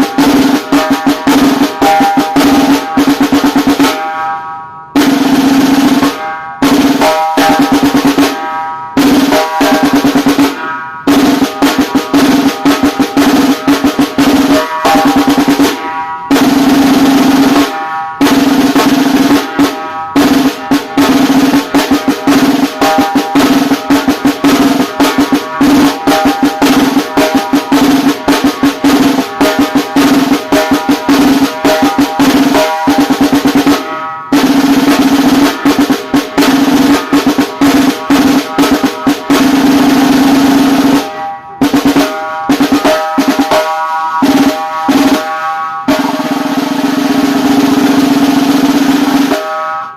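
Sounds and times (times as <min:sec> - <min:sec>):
snare drum rolls: 0:00.0 - 0:04.4, 0:05.0 - 0:49.9.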